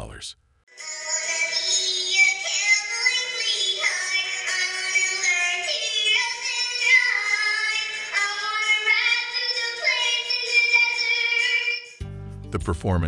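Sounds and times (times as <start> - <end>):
girl singing: 0.7 - 12.0.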